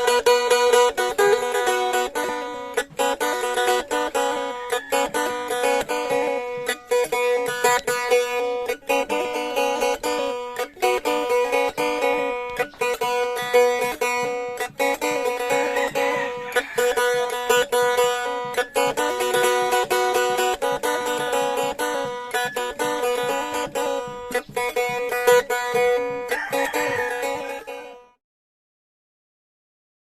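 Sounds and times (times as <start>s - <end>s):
plucked boat lute melody: 0.0s - 28.2s.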